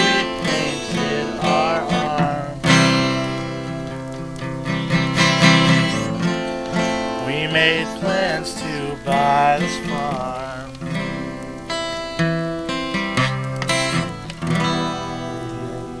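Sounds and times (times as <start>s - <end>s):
acoustic guitar strumming: 0.0s - 16.0s
guitar melody: 0.0s - 16.0s.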